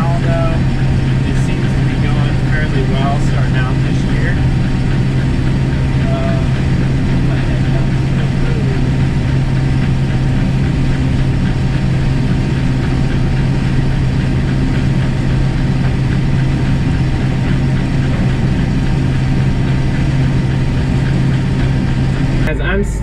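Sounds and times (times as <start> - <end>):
combine harvester droning: 0.0 - 23.0.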